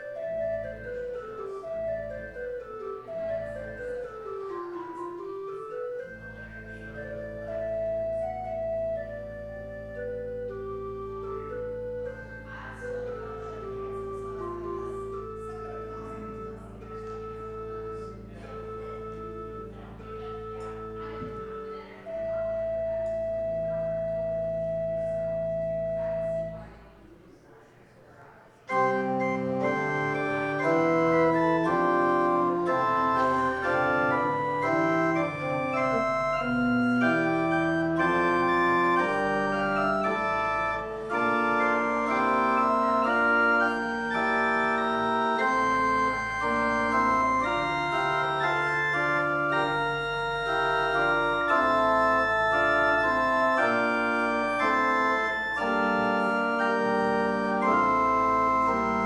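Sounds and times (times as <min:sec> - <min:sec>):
organ playing held chords: 0:00.0 - 0:27.0, 0:28.7 - 0:59.0.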